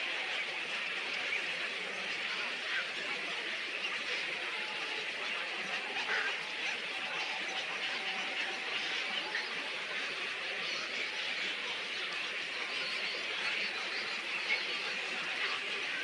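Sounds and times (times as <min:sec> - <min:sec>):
many small birds chattering: 0:00.0 - 0:16.0.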